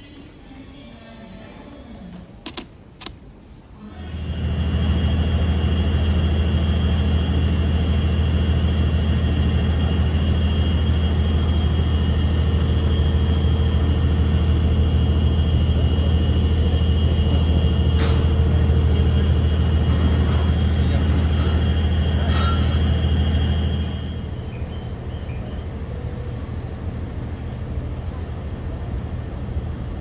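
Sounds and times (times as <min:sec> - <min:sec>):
locomotive engine drone: 0:03.8 - 0:30.0.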